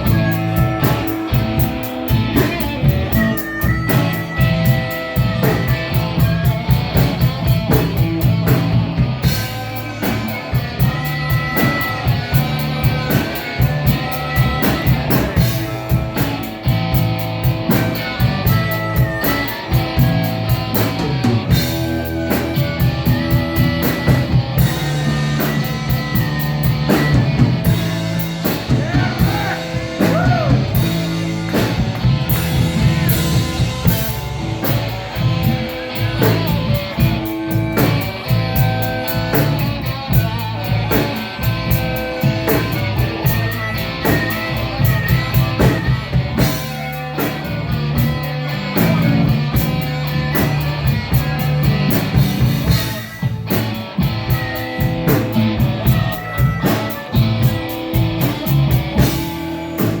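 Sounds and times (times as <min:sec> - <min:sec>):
drum kit beat: 0:00.0 - 1:00.0
guitar: 0:00.0 - 1:00.0.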